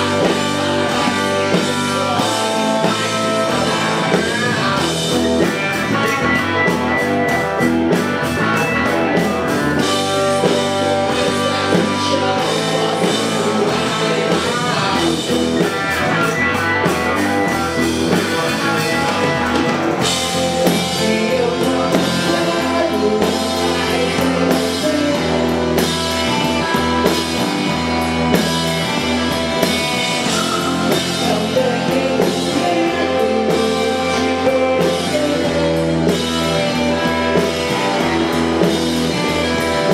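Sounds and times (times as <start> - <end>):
sung lead vocal: 0.0 - 7.6, 8.4 - 39.9
rock band playing: 0.0 - 39.9.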